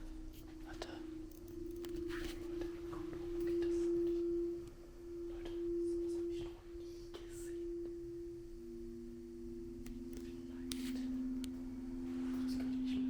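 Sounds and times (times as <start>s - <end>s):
lower humming tone: 0.0s - 13.0s
pure humming tone: 0.0s - 13.0s.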